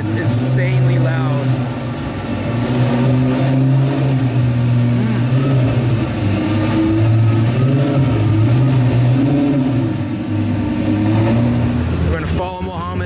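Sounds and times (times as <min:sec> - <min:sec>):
loud car engine idling: 0:00.0 - 0:13.0.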